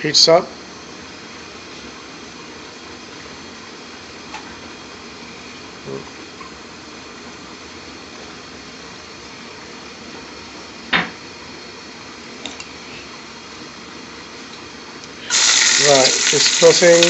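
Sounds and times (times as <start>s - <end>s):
kitchen background hiss: 0.0s - 17.0s.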